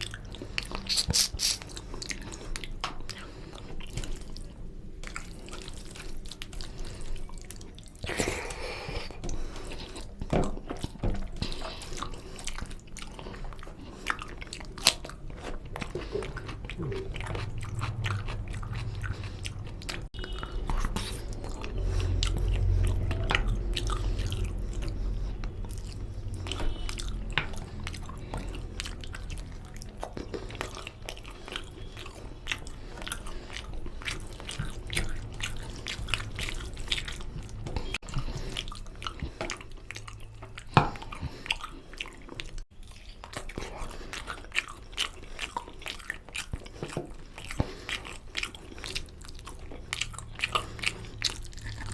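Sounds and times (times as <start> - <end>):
chewing and biting with crunches: 0.0 - 51.9.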